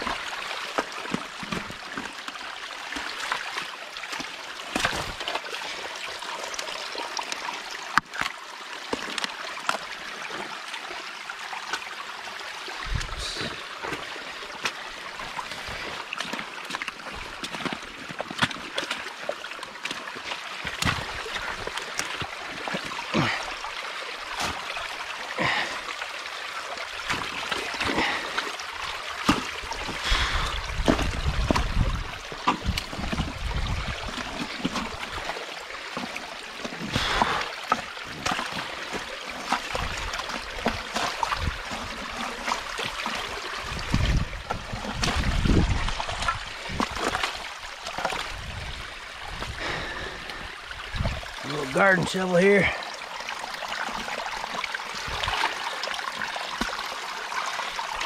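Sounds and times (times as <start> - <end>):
knocks and splashes: 0.0 - 5.8, 12.8 - 25.9, 26.8 - 52.8, 53.4 - 58.0
water trickling through dam: 0.0 - 58.0.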